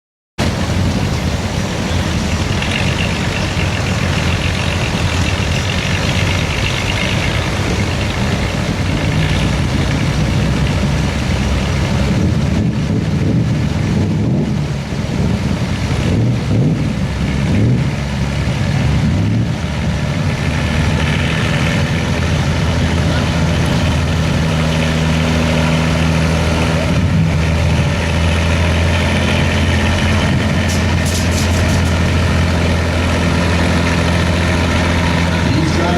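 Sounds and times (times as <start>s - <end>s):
tractor engine revving loudly: 0.4s - 35.9s.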